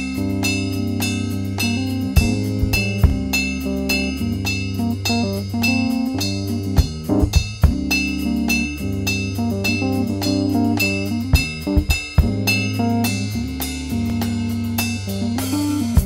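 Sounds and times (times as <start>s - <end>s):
drum kit beat: 0.0s - 16.0s
guitar: 0.0s - 16.0s
hip-hop instrumental: 0.0s - 16.0s.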